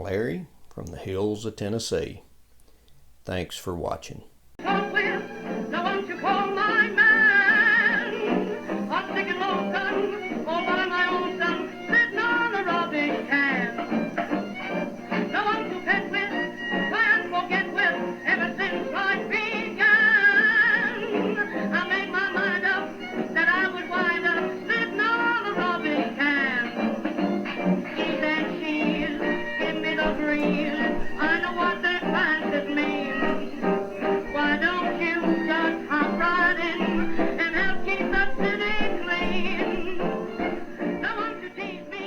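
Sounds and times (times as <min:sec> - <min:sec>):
music from old radio speaker: 0:04.6 - 0:42.0
singer with wavering voice: 0:04.6 - 0:42.0.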